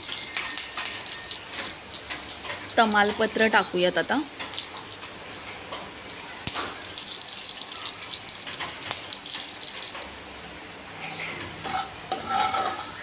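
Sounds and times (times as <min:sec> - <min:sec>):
hot oil sizzling and crackling: 0:00.0 - 0:10.1, 0:11.0 - 0:13.0.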